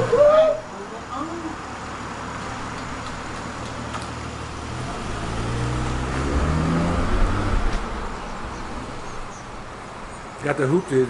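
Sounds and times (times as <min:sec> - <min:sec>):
car engine accelerating: 0:01.1 - 0:10.4.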